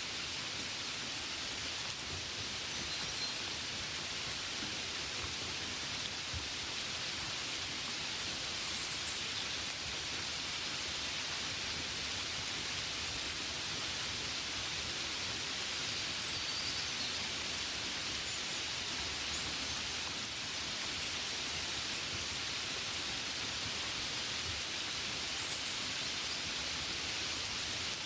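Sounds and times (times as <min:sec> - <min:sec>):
gentle steady rain: 0:00.0 - 0:28.0.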